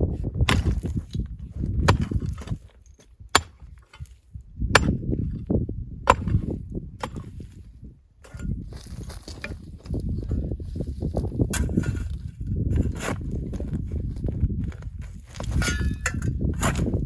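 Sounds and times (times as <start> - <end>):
rough crunching and scraping: 0.0 - 17.0.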